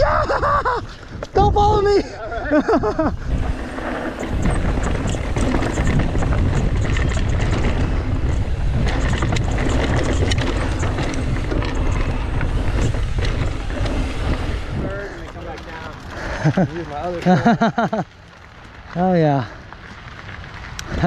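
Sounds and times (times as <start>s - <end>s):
wind buffeting microphone: 0.0s - 18.1s
tyre and trail noise: 0.0s - 21.0s
bike rattling over rocks: 2.8s - 21.0s.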